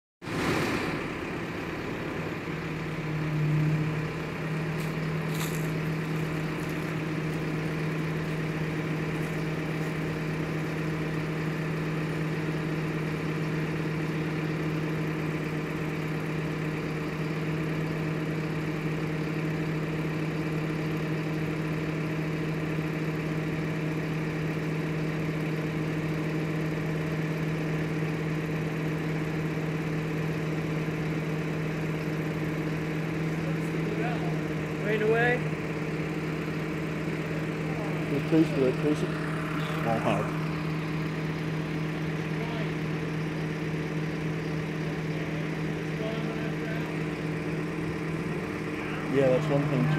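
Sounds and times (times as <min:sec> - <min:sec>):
crane engine running: 0:00.2 - 0:49.9.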